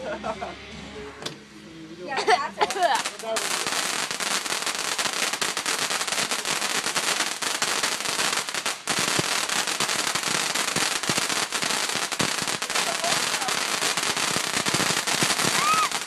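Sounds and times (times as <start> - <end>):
fireworks crackling: 2.2 - 16.0.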